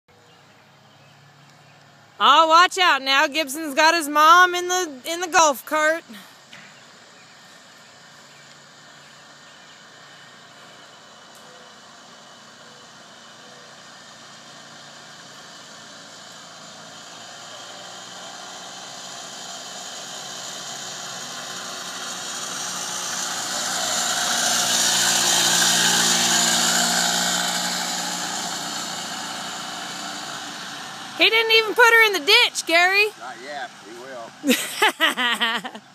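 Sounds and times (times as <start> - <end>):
golf cart driving past: 0.1 - 35.9.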